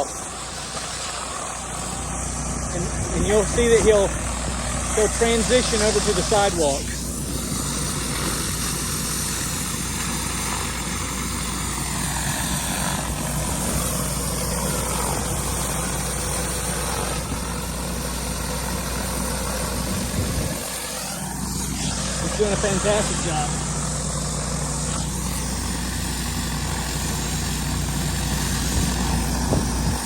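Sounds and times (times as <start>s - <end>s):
high-pressure water hiss on concrete: 0.0s - 30.0s
pressure washer engine running: 0.0s - 30.0s.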